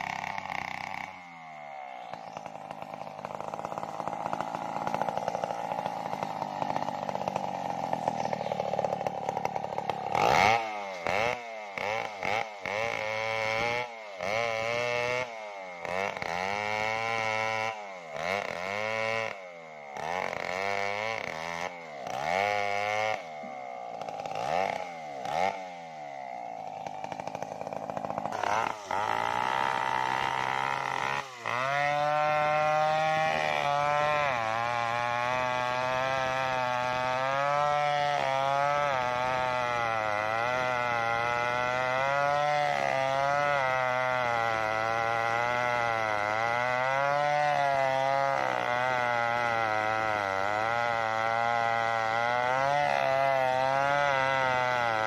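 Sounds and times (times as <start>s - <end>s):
chainsaw revving and cutting: 0.0s - 55.0s.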